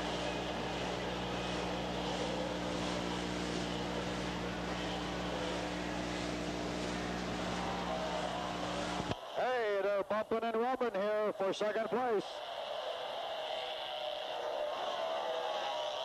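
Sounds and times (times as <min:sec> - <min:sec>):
racing motorcycle engines droning: 0:00.0 - 0:09.4, 0:10.0 - 0:16.0.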